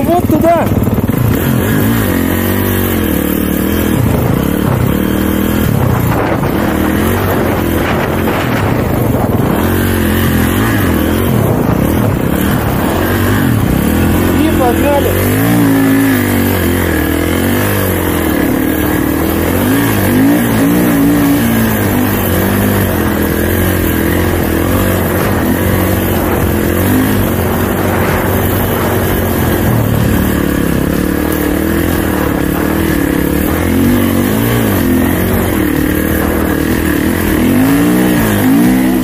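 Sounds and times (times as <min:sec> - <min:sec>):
snowbike engine revving: 0:00.0 - 0:39.0.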